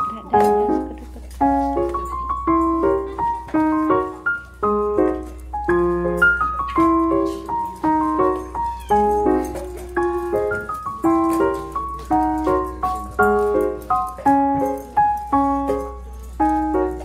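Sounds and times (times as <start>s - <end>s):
light piano tune: 0.0s - 17.0s.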